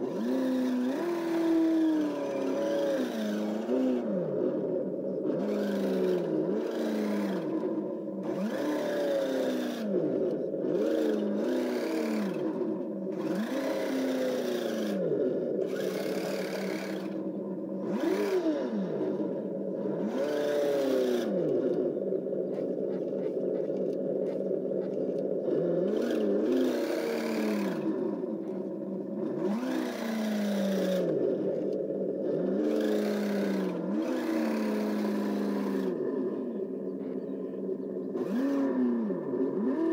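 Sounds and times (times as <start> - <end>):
simulated engine revving: 0.0 - 39.9.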